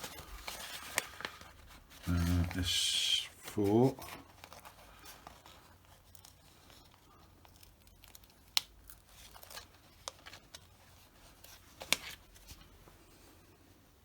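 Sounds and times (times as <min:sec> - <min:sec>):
faint rustling and peeling: 0:00.0 - 0:13.9.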